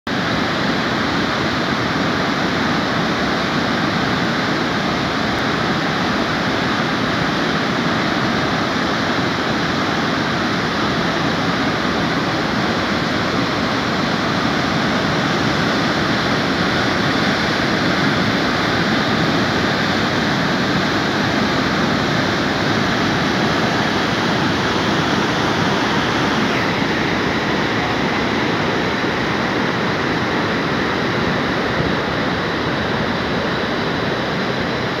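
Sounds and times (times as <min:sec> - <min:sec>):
river rushing over boulders: 0:00.1 - 0:35.0.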